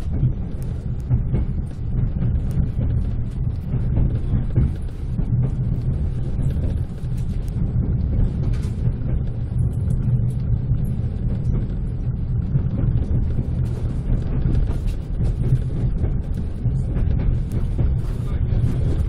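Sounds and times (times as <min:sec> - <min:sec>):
faint knocks and clicks: 0:00.0 - 0:19.0
train wheels rumbling on track: 0:00.0 - 0:19.0.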